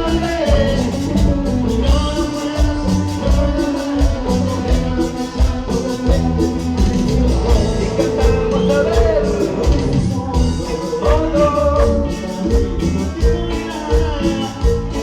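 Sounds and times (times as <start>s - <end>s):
band playing latin dance music: 0.0s - 15.0s.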